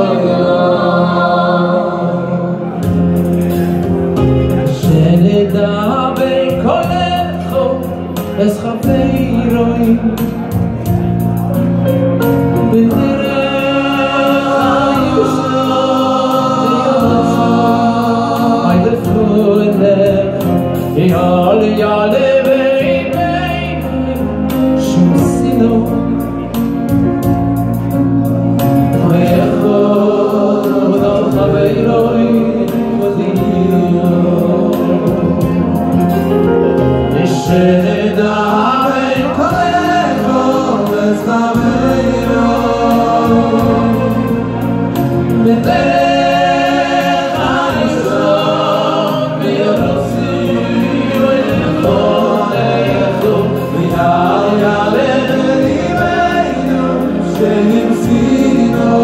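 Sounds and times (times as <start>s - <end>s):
keyboard bass notes: 0.0s - 59.0s
lead voice singing: 0.0s - 59.0s
male choir singing in harmony: 0.0s - 59.0s.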